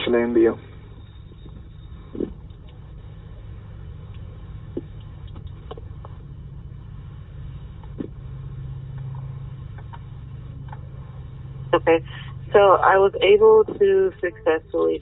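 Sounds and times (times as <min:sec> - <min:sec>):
low hum: 0:00.0 - 0:15.0
low rumble: 0:00.0 - 0:15.0.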